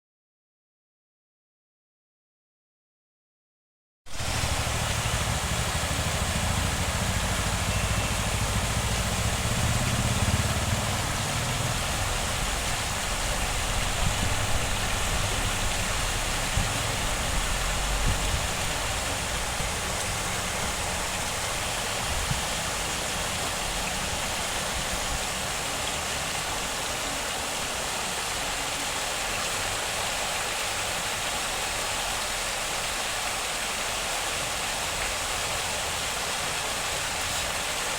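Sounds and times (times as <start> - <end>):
running water rushing: 4.1 - 37.9.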